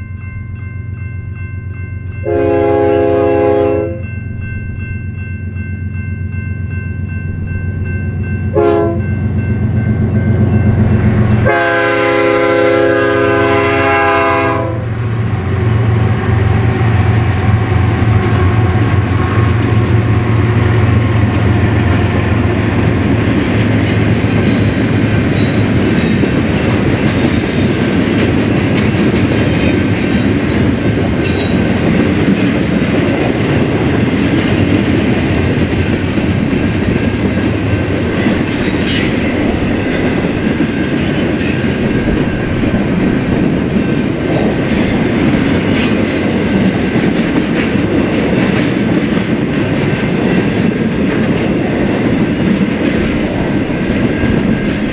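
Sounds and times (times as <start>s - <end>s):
freight train wheels rumbling: 0.0s - 54.9s.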